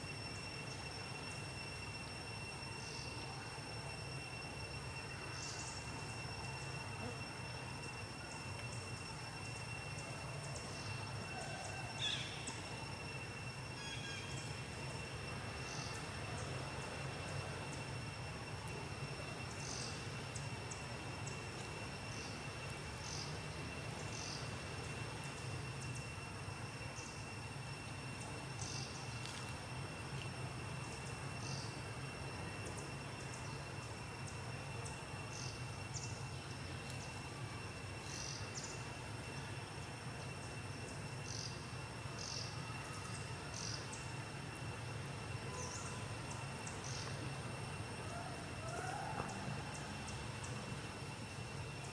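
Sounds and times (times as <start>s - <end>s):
insects droning: 0.0s - 51.9s
low steady hum: 0.0s - 51.9s.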